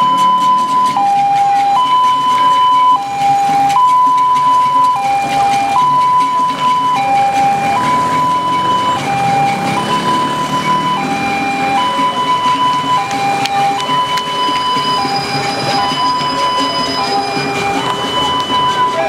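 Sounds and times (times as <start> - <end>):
cars driving on dirt road: 0.0 - 19.0
two-tone siren: 0.0 - 19.0.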